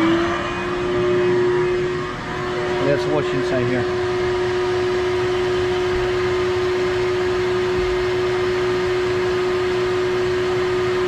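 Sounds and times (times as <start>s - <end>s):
vacuum motor whining: 0.0s - 11.0s.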